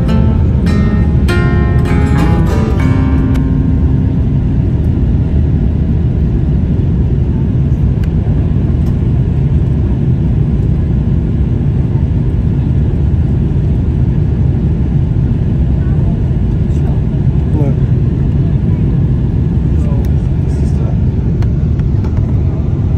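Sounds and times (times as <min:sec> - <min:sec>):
airliner cabin engine rumble: 0:03.2 - 0:22.9.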